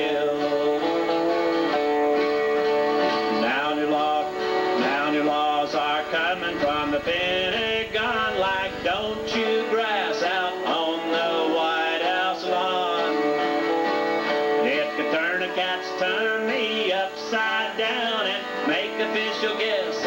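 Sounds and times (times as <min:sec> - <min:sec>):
acoustic guitars strummed: 0:00.0 - 0:20.0
electric guitar: 0:00.0 - 0:20.0.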